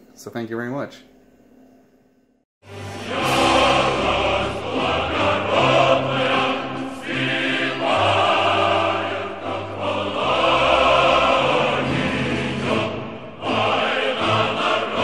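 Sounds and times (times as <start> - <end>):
choir singing held chords: 2.6 - 15.0.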